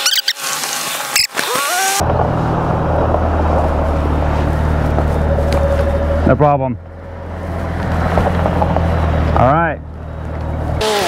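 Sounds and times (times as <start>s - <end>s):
rising whine: 1.7s - 10.8s
car engine droning: 1.7s - 11.0s.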